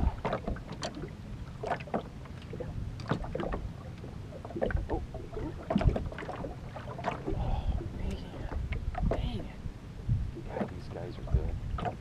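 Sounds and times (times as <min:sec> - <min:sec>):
low rumble: 0:00.0 - 0:12.0
waves slapping against boat hull: 0:00.0 - 0:12.0.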